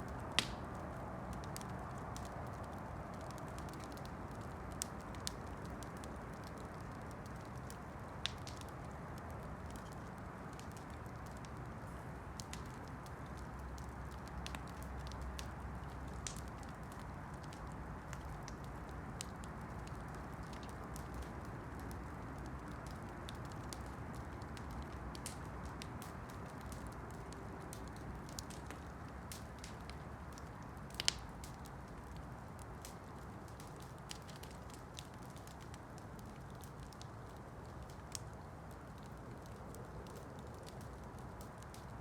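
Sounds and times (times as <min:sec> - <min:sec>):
campfire burning: 0:00.0 - 0:42.0
fire crackling and popping: 0:00.0 - 0:42.0.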